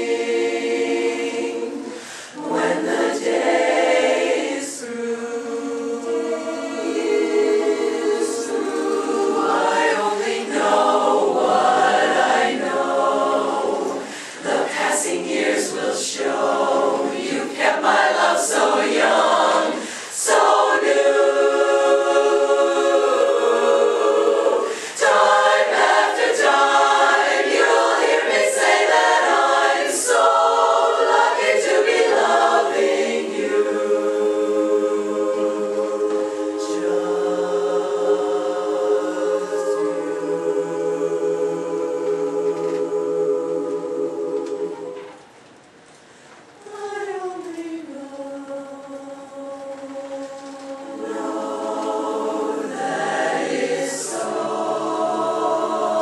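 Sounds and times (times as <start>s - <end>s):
women's chorus singing: 0.0s - 45.4s, 46.6s - 56.0s.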